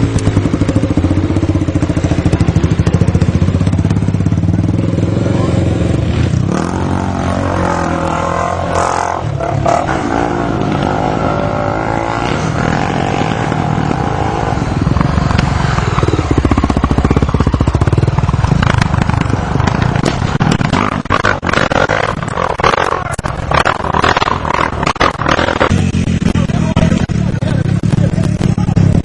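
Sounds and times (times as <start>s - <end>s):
motorcycles revving and passing: 0.0s - 29.0s.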